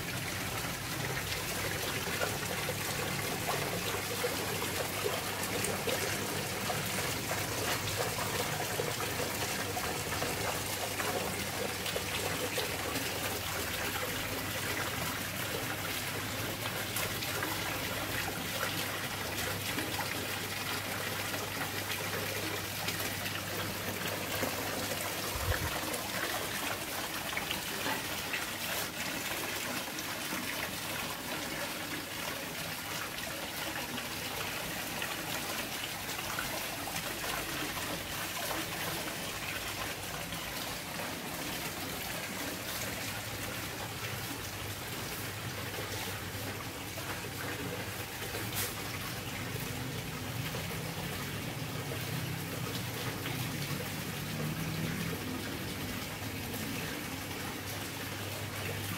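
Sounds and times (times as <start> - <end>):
small waterfall splashing: 0.0 - 58.9.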